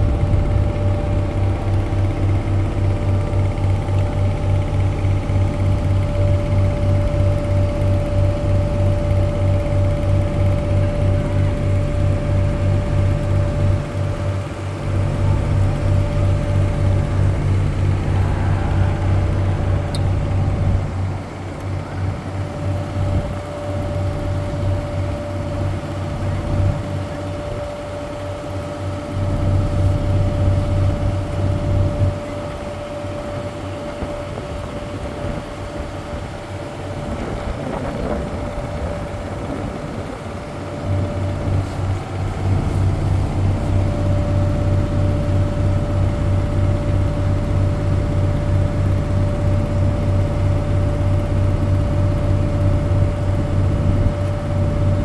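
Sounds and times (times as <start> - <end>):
boat engine low drone: 0.0 - 55.0
constant higher whine: 0.0 - 55.0.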